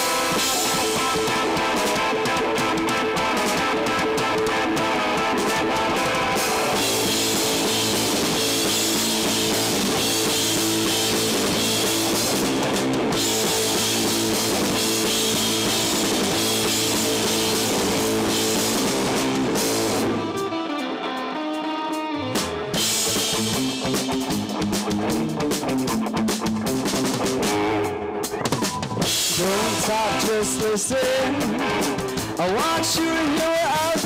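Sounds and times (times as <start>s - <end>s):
bass guitar: 0.0s - 34.0s
drum kit: 0.0s - 34.0s
electric guitars: 0.0s - 34.0s.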